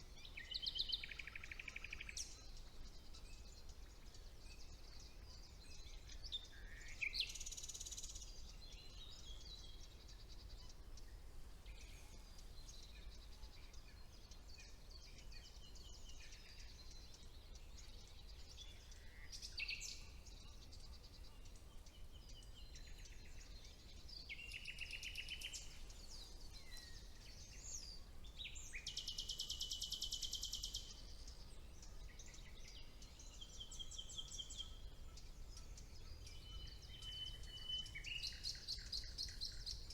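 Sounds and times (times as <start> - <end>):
songbirds singing: 0.0 - 39.9
nightingale trilling song: 0.1 - 39.9.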